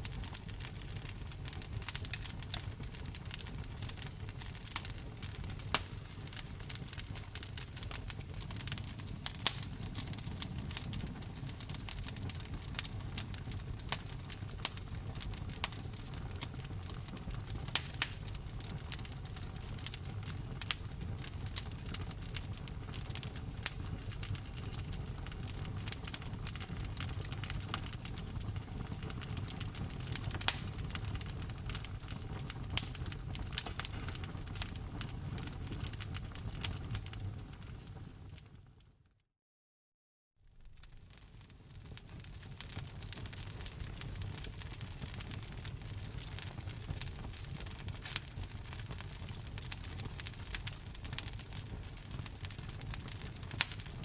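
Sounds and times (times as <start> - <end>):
wood fire crackling: 0.0 - 38.6, 40.5 - 54.0.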